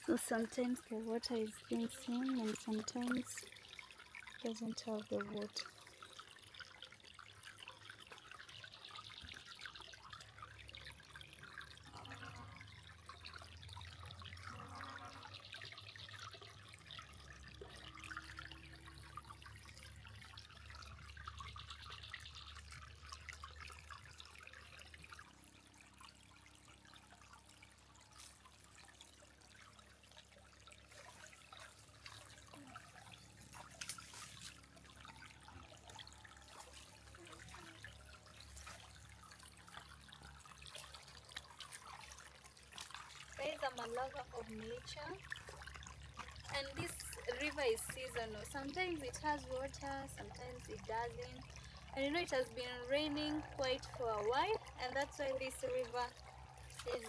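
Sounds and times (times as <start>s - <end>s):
river trickling: 0.0s - 57.0s.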